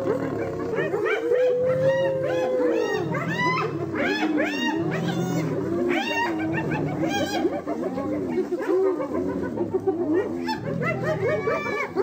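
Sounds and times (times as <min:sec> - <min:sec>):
hyenas squealing and yelping: 0:00.0 - 0:12.0.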